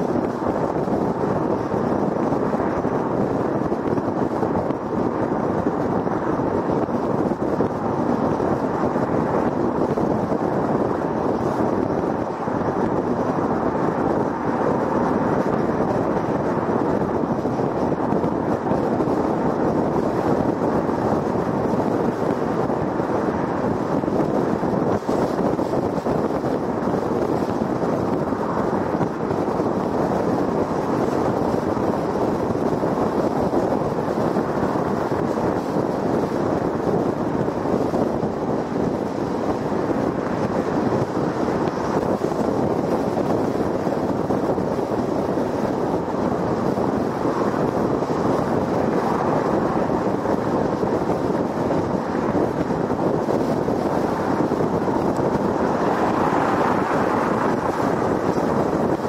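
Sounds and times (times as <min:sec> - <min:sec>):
wind rush: 0:00.0 - 0:59.0.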